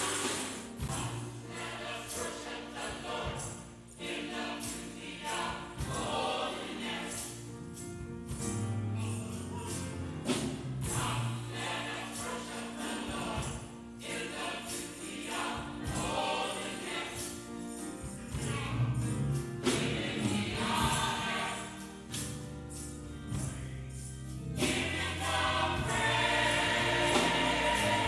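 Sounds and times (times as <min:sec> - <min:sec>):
bass: 0:00.0 - 0:14.1, 0:14.8 - 0:28.0
gospel choir singing: 0:00.0 - 0:28.0
organ: 0:00.0 - 0:28.0
tambourine jingling: 0:00.0 - 0:28.0.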